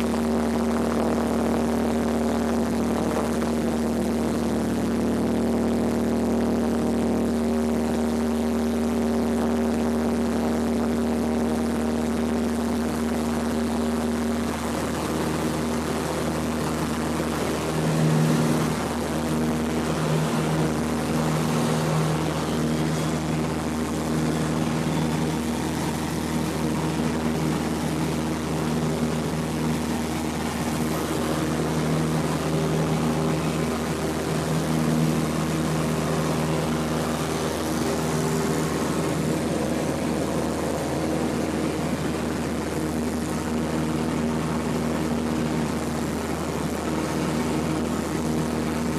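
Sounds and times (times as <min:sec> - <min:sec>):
airplane engine and propeller drone: 0:00.0 - 0:48.9.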